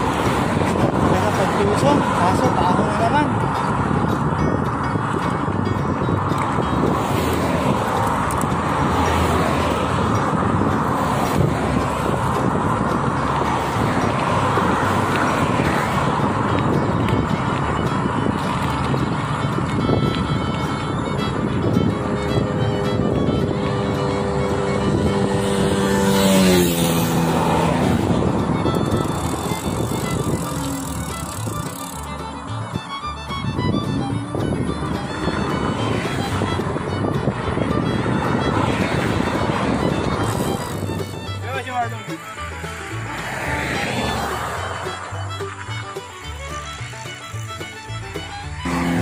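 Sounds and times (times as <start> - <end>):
highway traffic passing: 0.0 - 49.0
wind rushing over microphone: 0.0 - 49.0.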